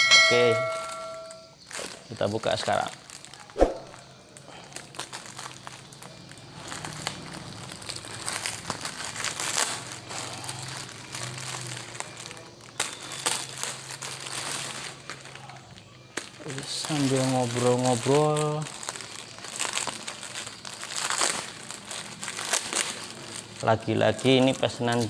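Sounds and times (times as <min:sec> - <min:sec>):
packaging crinkling and rustling: 0:01.6 - 0:25.0
packaging tearing: 0:01.7 - 0:25.0.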